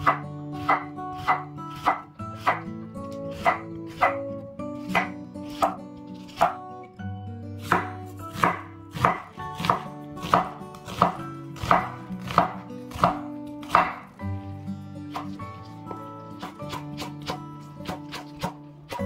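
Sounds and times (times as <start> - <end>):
knife slicing on cutting board: 0.1 - 6.6, 7.6 - 14.5, 15.1 - 19.0.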